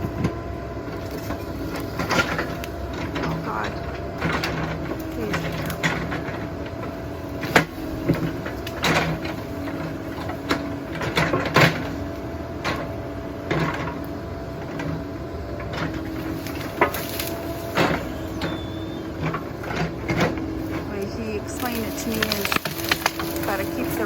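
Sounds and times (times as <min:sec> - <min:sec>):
excavator engine and hydraulics humming: 0:00.0 - 0:24.0.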